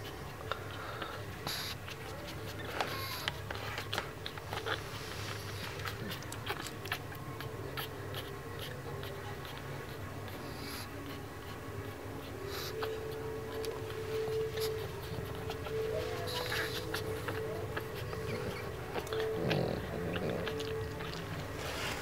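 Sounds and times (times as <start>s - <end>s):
low steady hum: 0.0s - 22.0s
puppies rustling on blanket: 0.0s - 22.0s.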